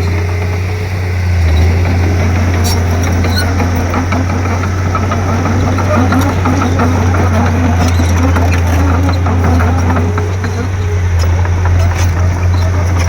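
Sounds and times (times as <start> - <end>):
bulldozer diesel engine running: 0.0 - 13.0
light clicks and rattles: 1.6 - 13.0.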